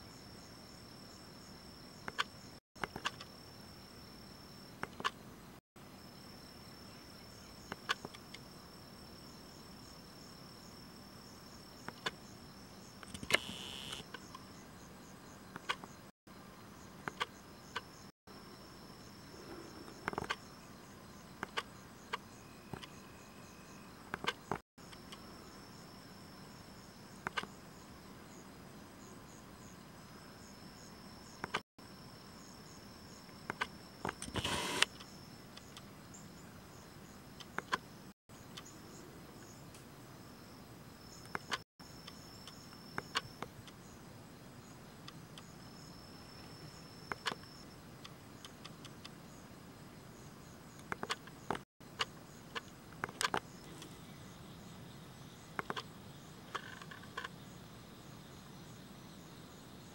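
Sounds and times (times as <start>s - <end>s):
faint outdoor background: 0.0s - 59.9s
insects trilling: 0.0s - 59.9s
rustle: 2.4s - 59.9s.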